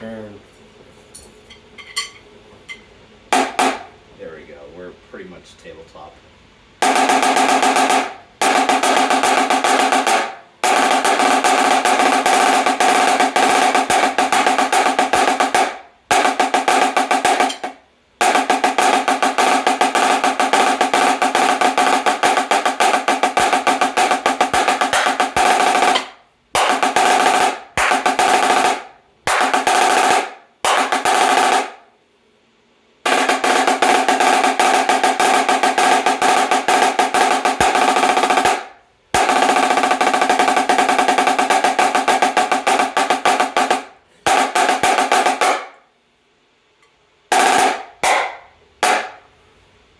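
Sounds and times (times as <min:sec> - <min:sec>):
snare drum rolls: 0:03.3 - 0:04.0, 0:06.8 - 0:31.9, 0:33.0 - 0:45.8, 0:47.3 - 0:49.2.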